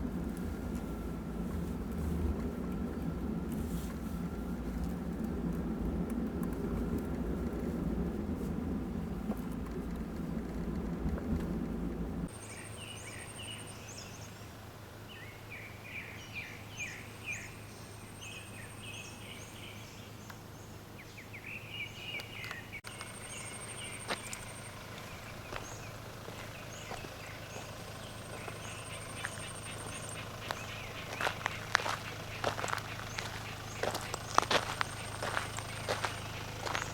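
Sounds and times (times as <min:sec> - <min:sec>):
birds chirping: 0:00.0 - 0:36.9
low engine-like rumble: 0:00.0 - 0:36.9.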